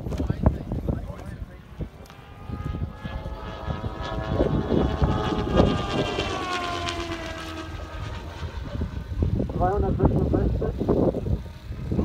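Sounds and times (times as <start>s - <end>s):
model plane high whine: 0.0s - 12.0s
wind rumble on microphone: 0.0s - 12.0s.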